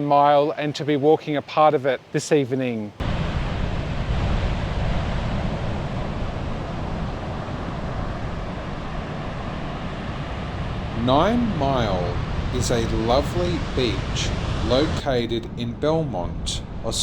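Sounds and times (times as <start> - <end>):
ocean surf washing: 2.0 - 17.0
wind buffeting microphone: 3.0 - 17.0.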